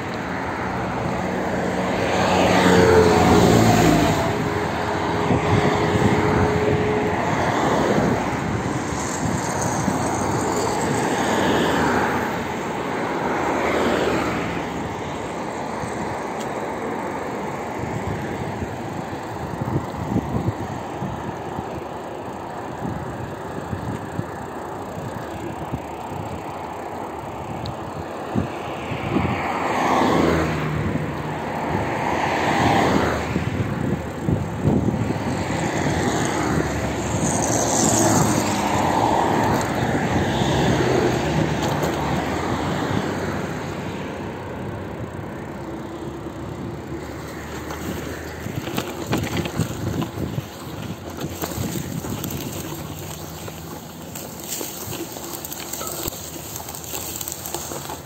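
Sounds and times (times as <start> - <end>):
bicycle wheels rushing: 0.0 - 43.8, 44.5 - 58.0
traffic: 0.0 - 58.0
wind: 0.0 - 58.0.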